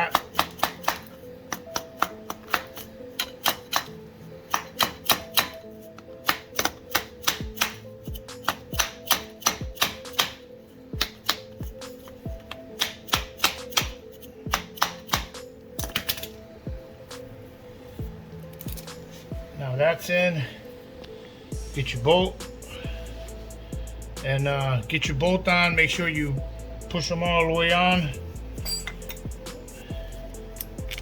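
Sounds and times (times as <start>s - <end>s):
background music: 0.0s - 31.0s.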